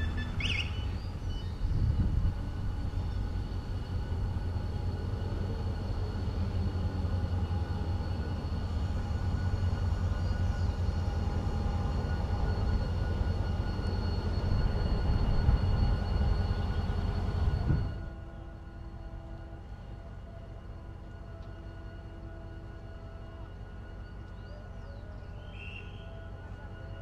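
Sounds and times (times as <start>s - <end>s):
diesel locomotive rumble: 0.0s - 27.0s.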